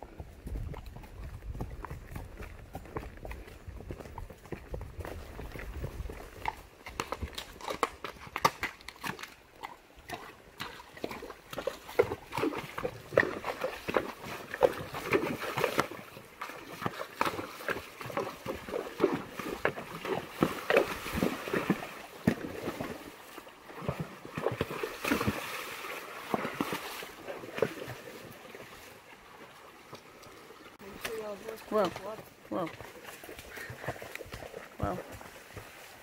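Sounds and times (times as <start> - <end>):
horse hoofbeats: 0.0 - 28.8, 30.8 - 36.0.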